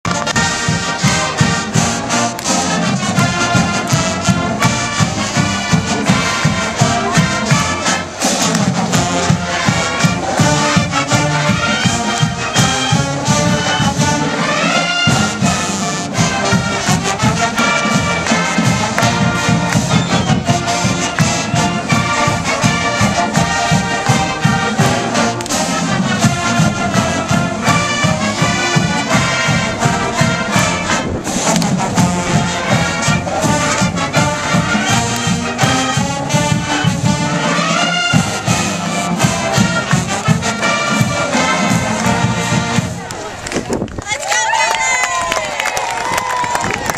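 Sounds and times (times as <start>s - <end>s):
marching band playing: 0.0s - 43.6s.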